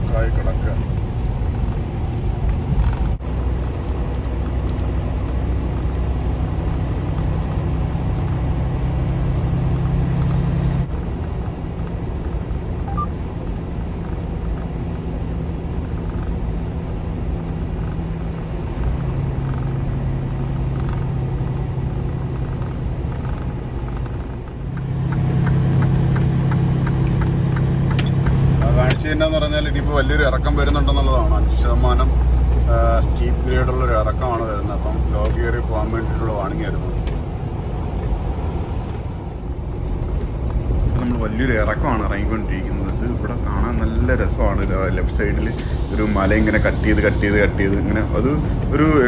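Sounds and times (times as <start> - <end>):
road rumble: 0.0 - 49.0
truck diesel engine droning: 0.0 - 49.0.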